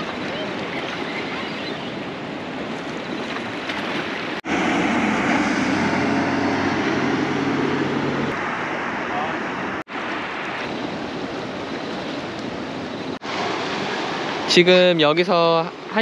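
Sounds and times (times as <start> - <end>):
motorboat engine passing: 0.0 - 14.6
flowing water: 0.0 - 16.0
light surf: 0.0 - 16.0.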